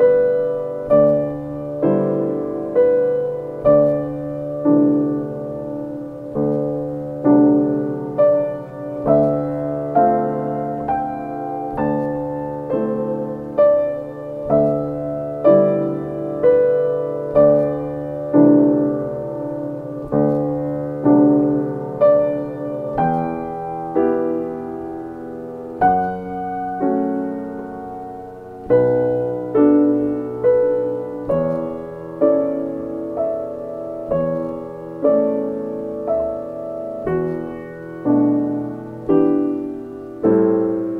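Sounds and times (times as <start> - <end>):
slow gentle piano music: 0.0 - 40.9.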